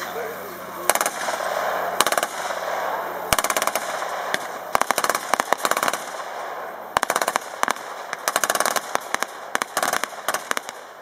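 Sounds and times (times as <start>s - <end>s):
machine gun firing bursts: 0.8s - 11.0s.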